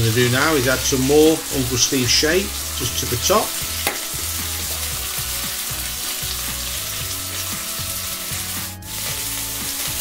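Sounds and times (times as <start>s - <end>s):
burger patty sizzling: 0.0s - 10.0s.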